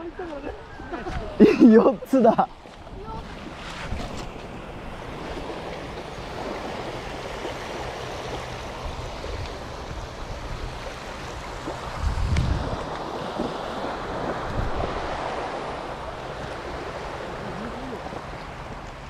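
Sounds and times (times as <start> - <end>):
waves washing up shingle beach: 0.0 - 19.0.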